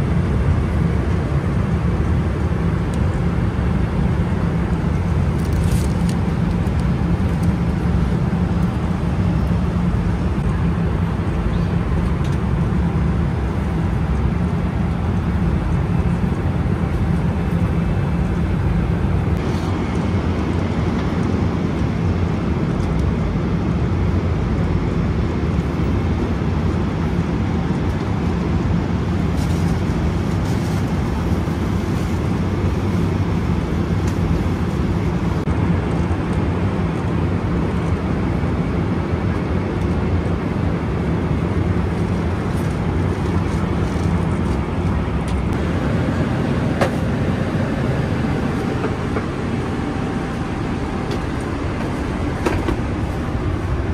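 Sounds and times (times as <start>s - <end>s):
airliner cabin noise in flight: 0.0s - 53.9s.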